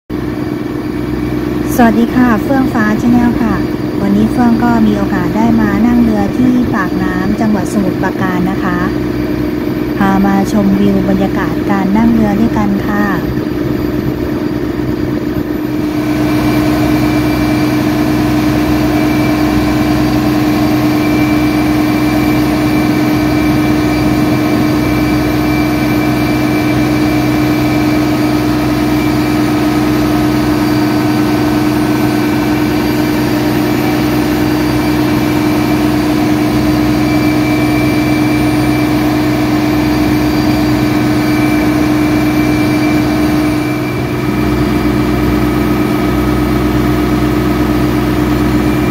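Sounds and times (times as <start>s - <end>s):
boat engine humming: 0.1s - 48.9s.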